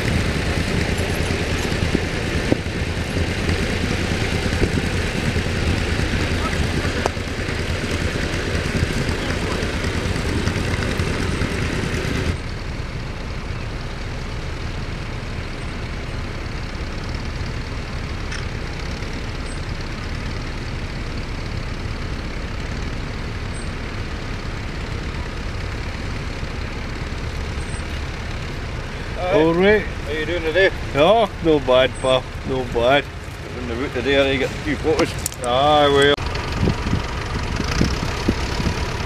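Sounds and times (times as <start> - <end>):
distant tractor engines running: 0.0 - 39.0.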